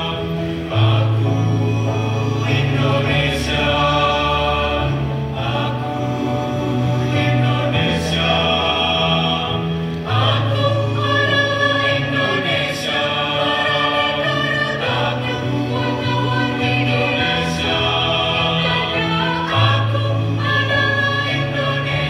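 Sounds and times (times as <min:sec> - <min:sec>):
mixed choir singing: 0:00.0 - 0:22.0.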